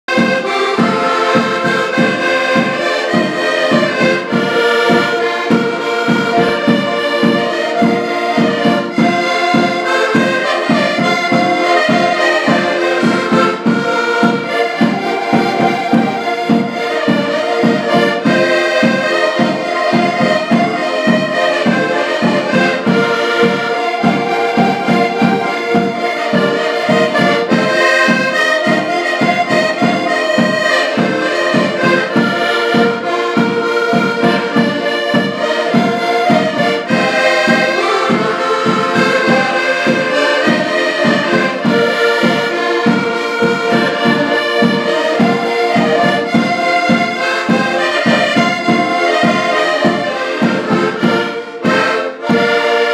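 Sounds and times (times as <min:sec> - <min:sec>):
accordions playing lively tune: 0:00.0 - 0:52.9.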